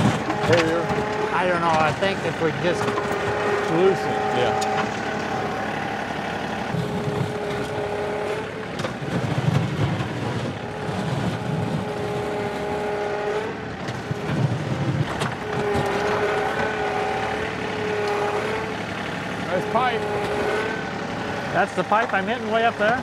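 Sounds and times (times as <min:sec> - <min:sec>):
low rumbling under load: 0:00.0 - 0:23.0
tractor diesel engine whining: 0:00.0 - 0:23.0.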